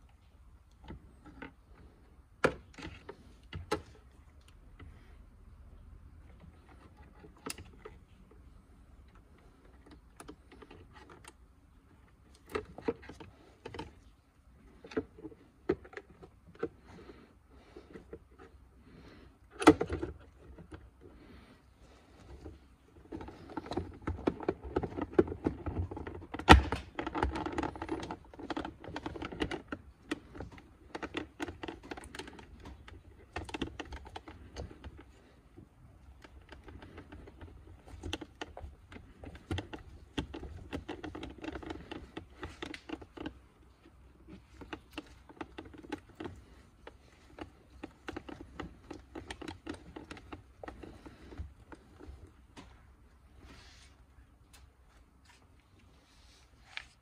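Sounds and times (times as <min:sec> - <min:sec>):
plastic parts clicking and tapping: 0:00.0 - 0:05.0, 0:06.1 - 0:21.3, 0:22.1 - 0:53.6.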